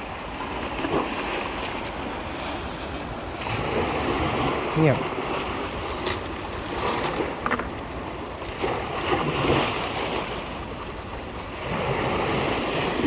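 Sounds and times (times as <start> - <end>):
sea water washing against shore: 0.0 - 13.0.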